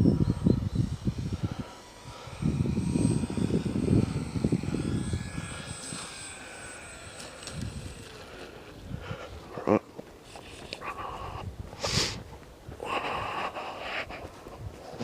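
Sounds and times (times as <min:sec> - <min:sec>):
wind on microphone: 0:00.0 - 0:09.7, 0:10.4 - 0:15.0
model plane motor whining: 0:00.0 - 0:12.2.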